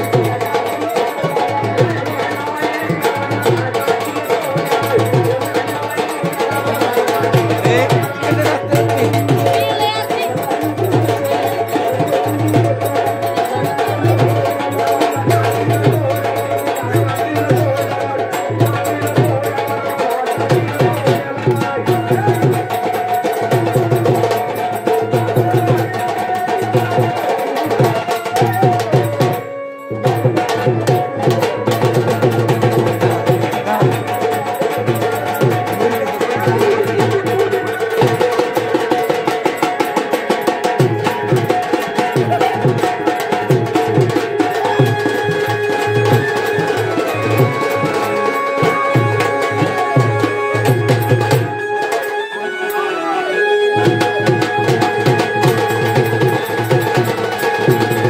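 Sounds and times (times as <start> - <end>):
hand-drum and percussion beat: 0.0 - 52.9, 53.5 - 58.0
person singing: 0.0 - 58.0.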